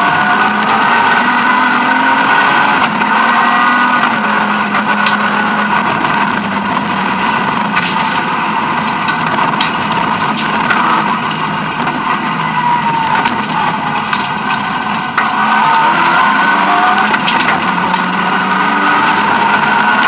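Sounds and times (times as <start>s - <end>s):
gravel striking car: 0.0s - 12.4s, 13.1s - 20.0s
car engine running hard: 0.0s - 20.0s.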